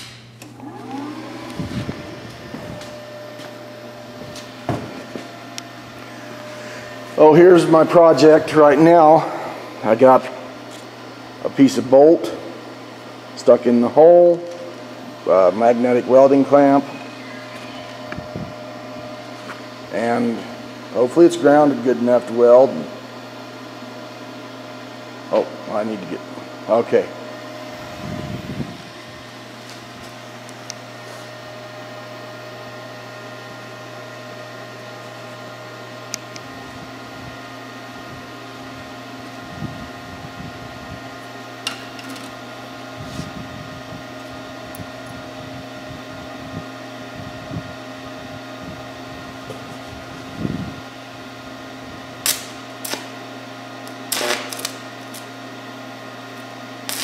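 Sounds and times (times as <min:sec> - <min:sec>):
welder fan humming: 0:00.0 - 0:57.0.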